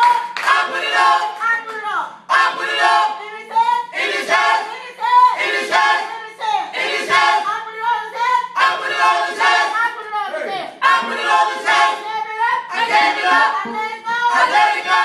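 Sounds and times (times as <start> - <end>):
group singing gospel: 0.0 - 15.0.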